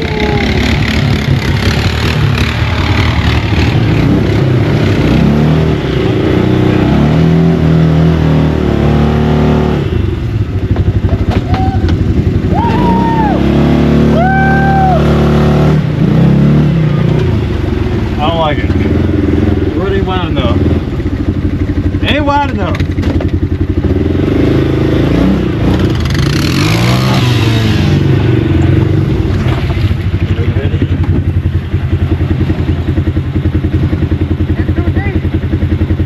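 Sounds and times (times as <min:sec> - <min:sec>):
atv engines revving: 0:00.0 - 0:36.0.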